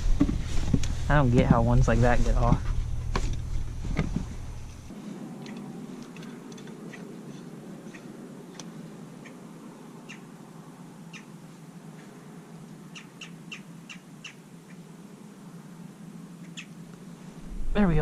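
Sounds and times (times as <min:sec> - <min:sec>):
steady low background noise: 0:00.0 - 0:18.0.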